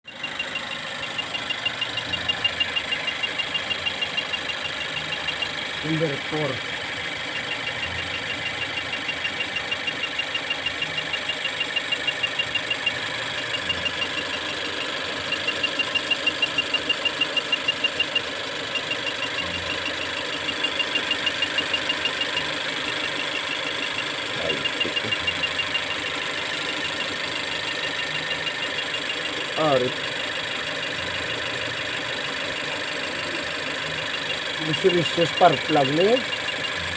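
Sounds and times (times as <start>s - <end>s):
car engine idling: 0.0s - 36.9s
fast regular ticking: 0.1s - 36.9s.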